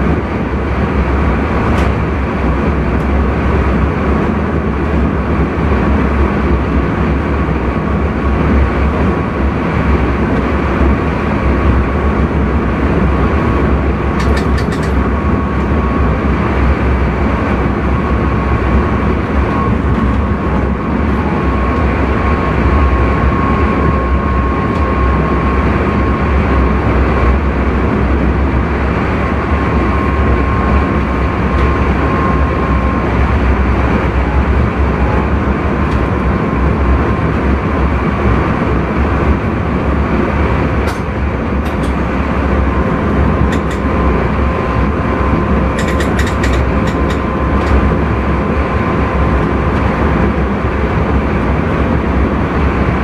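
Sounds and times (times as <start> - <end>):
train wheels rumbling on rails: 0.0 - 53.0
faint steady whine: 2.0 - 53.0.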